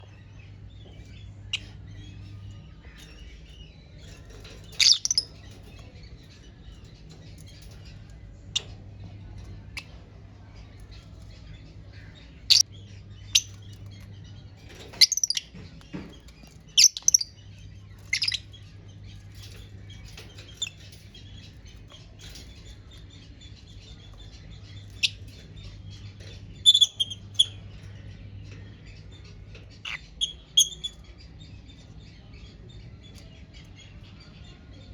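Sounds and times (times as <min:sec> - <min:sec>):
faint low hum: 0:00.0 - 0:34.9
lovebirds chirping and squawking: 0:00.0 - 0:34.9.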